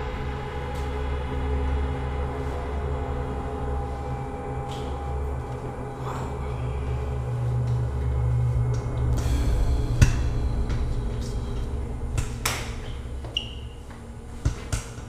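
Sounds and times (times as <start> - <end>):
low background music: 0.0 - 15.0.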